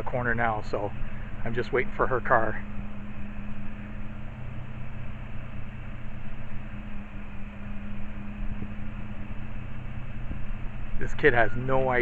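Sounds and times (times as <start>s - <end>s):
low mechanical hum with tones: 0.0s - 12.0s.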